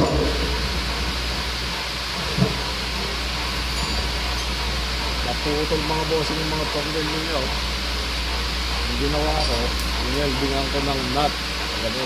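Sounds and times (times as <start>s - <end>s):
low machine hum: 0.0s - 12.0s
steady rushing noise: 0.0s - 12.0s.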